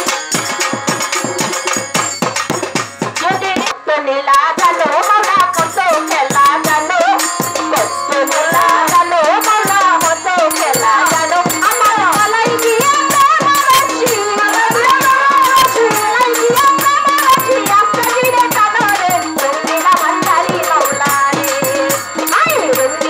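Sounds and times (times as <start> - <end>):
drum beat: 0.0 - 3.7, 4.6 - 23.0
rattling percussion: 0.0 - 3.8, 4.4 - 23.0
woman singing into a microphone: 3.2 - 23.0.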